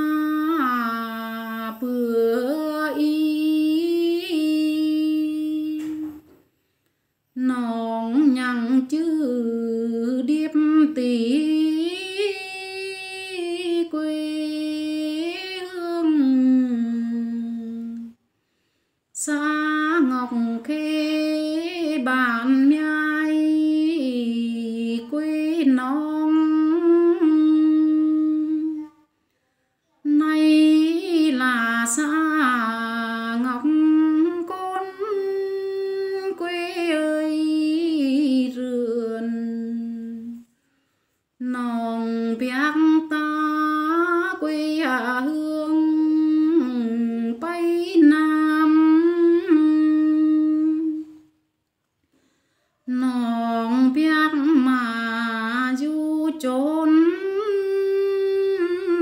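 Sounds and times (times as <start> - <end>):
woman singing unaccompanied: 0.0 - 6.4, 7.4 - 18.2, 19.1 - 29.0, 30.0 - 40.6, 41.4 - 51.4, 52.9 - 59.0.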